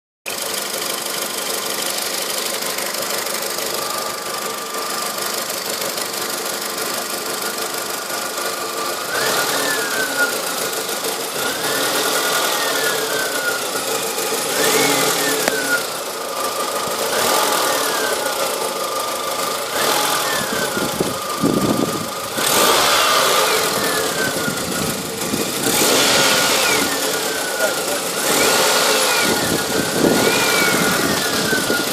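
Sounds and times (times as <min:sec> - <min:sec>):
engine running: 0:00.3 - 0:31.9.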